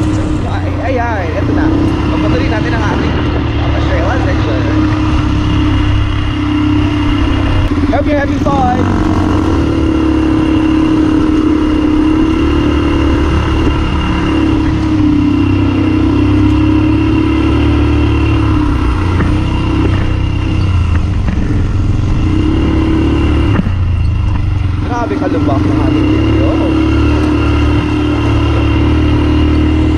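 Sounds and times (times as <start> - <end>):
atv engine running: 0.0 - 29.9
low rumble on bumpy trail: 0.0 - 29.9.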